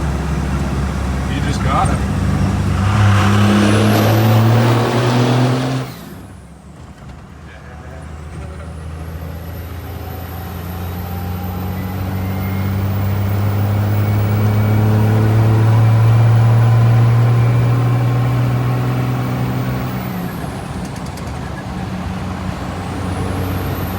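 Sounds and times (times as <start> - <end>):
truck engine running: 0.0 - 23.9.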